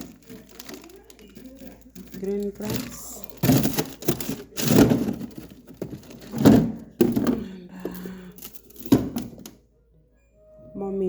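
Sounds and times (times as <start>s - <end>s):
plastic bags crinkling: 0.0s - 9.5s
frozen packages thunking down: 0.0s - 9.6s.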